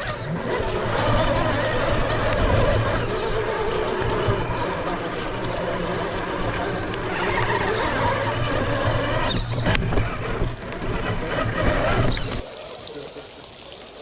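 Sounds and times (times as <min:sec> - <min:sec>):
toy car electric motor running: 0:00.0 - 0:12.5.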